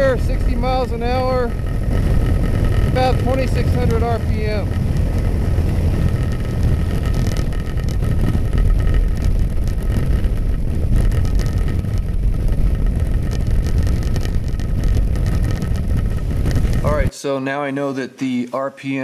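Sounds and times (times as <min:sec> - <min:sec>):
motorcycle engine cruising: 0:00.0 - 0:17.1
wind rushing over microphone: 0:00.0 - 0:17.1.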